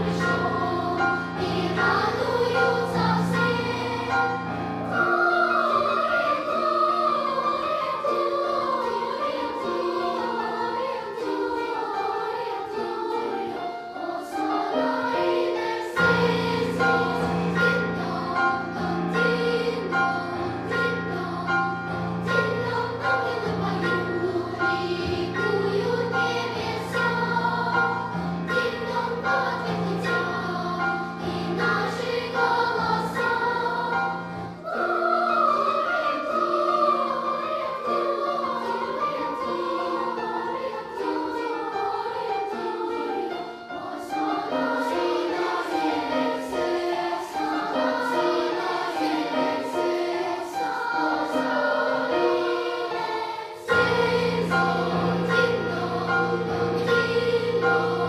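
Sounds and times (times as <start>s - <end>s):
children's choir singing: 0.0s - 58.0s
piano accompaniment: 0.0s - 58.0s.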